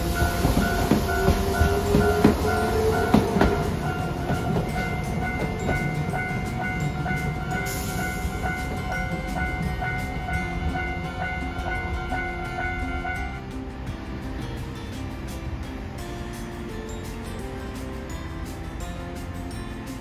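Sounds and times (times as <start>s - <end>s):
tram motor whine: 0.0s - 19.9s
level-crossing warning bell: 0.0s - 20.0s
tram wheels clacking: 0.0s - 20.0s.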